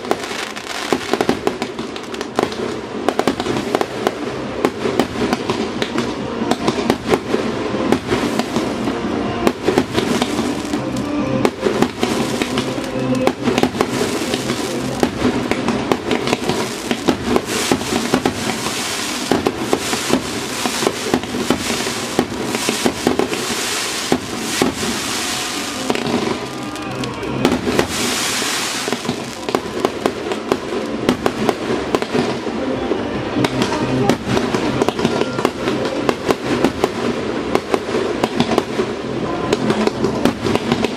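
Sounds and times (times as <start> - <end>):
firework bursts and crackle: 0.0 - 40.9.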